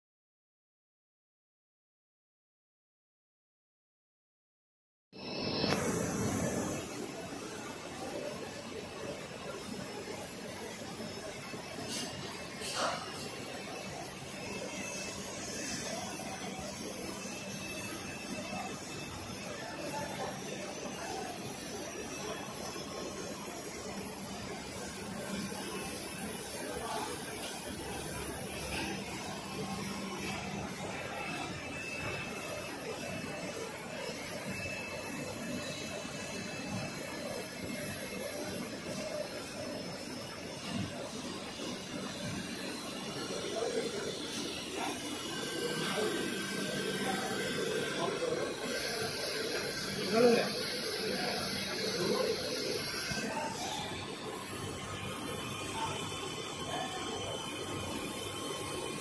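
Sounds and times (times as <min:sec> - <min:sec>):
machine running steadily: 0:05.2 - 0:59.0.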